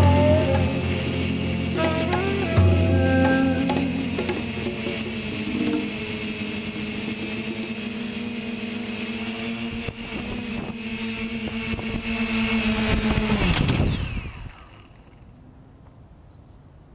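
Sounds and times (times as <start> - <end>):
quadcopter motors humming: 0.0 - 15.4.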